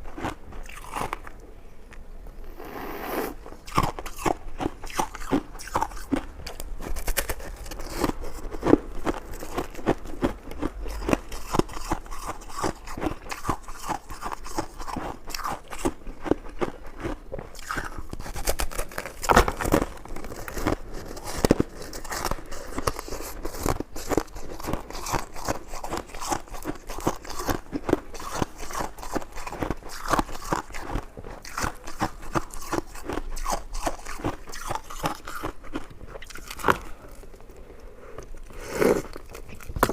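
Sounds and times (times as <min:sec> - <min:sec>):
person biting and chewing: 0:00.1 - 0:01.4, 0:02.6 - 0:39.9.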